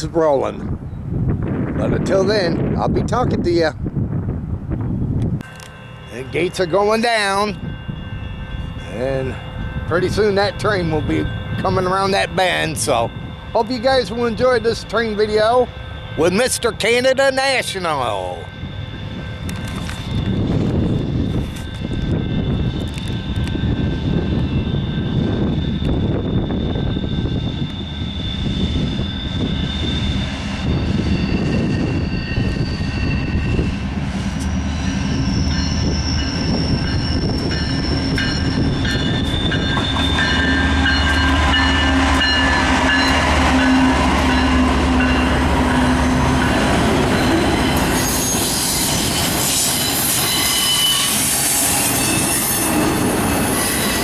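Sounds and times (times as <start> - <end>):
diesel locomotive engine drone: 3.7 - 54.0
train wheels rolling and squealing: 4.7 - 54.0.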